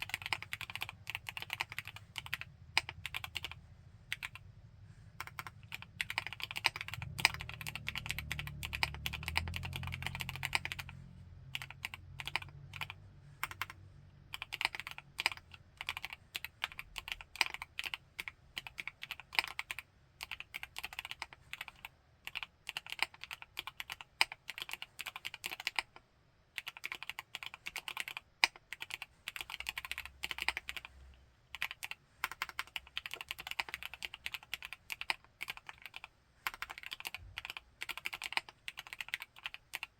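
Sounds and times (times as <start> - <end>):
mechanical keyboard typing: 0.0 - 4.5, 5.1 - 26.0, 26.6 - 39.9.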